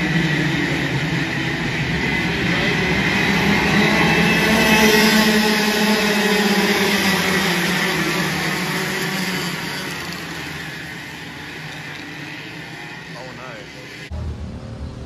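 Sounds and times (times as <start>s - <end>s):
kart engines at high revs: 0.0s - 15.0s.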